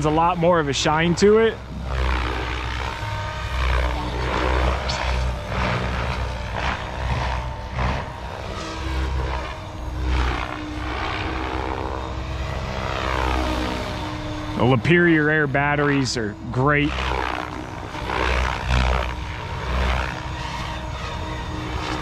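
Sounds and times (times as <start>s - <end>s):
electric motor whining: 0.0s - 22.0s
helicopter rotor blades whooshing: 0.0s - 22.0s.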